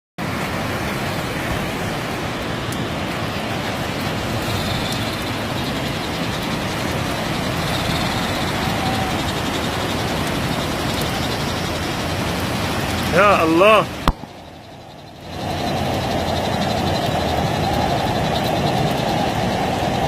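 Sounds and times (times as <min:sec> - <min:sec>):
floodwater rushing: 0:00.2 - 0:20.0.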